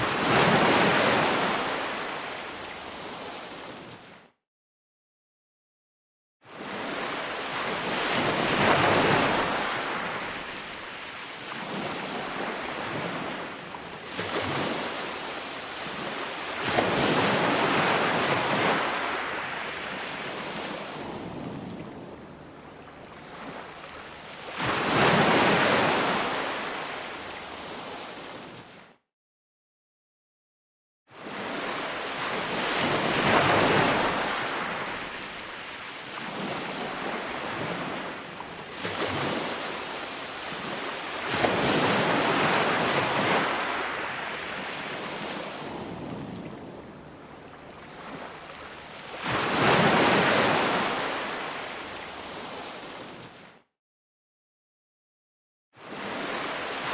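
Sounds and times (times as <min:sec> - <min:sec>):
waves breaking: 0:00.0 - 0:04.0, 0:07.0 - 0:28.7, 0:31.5 - 0:53.4.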